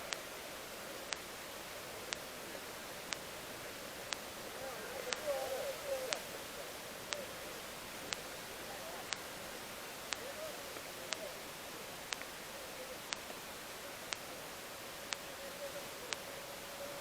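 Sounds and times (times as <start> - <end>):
faint distant voices: 0.0 - 17.0
steady hiss: 0.0 - 17.0.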